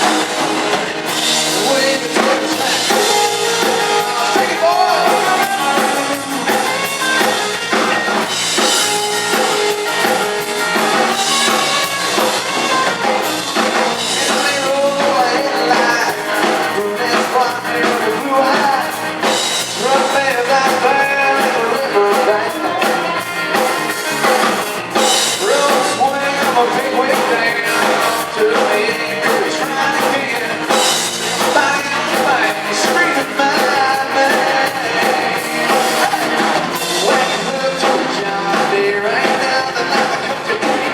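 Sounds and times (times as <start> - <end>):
drum kit beat: 0.0 - 40.9
electric guitar: 0.0 - 40.9
person singing: 0.0 - 40.9.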